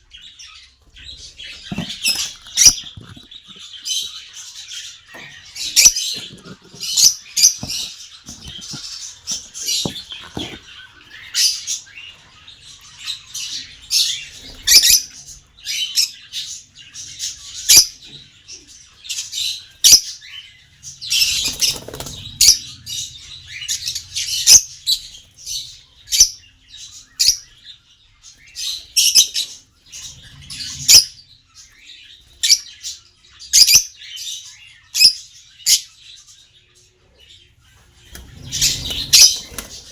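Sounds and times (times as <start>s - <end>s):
parrots chirping and squawking: 0.0s - 37.1s, 37.7s - 39.9s.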